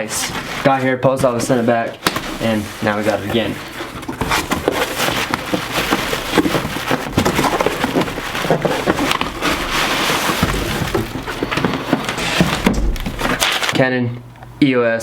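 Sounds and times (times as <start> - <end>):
cardboard rustling and crinkling: 0.0 - 13.9.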